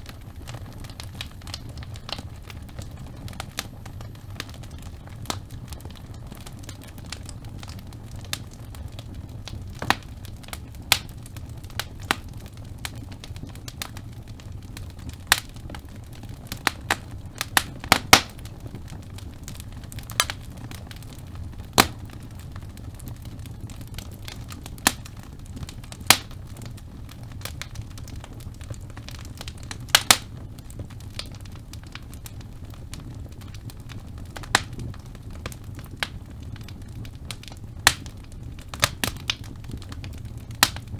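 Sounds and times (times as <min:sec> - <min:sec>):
fire rumbling: 0:00.0 - 0:40.9
logs crackling and popping: 0:00.0 - 0:40.9.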